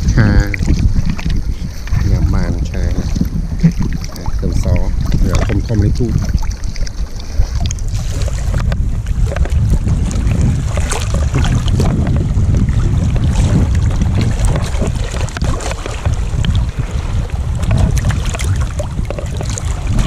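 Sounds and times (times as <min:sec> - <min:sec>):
boat engine rumble: 0:00.0 - 0:20.0
water rushing past hull: 0:00.0 - 0:20.0
wind buffeting microphone: 0:00.0 - 0:20.0.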